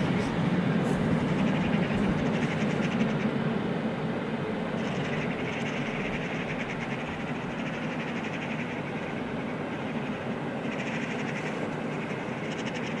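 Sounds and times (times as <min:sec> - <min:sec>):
freight train rolling along track: 0:00.0 - 0:13.0.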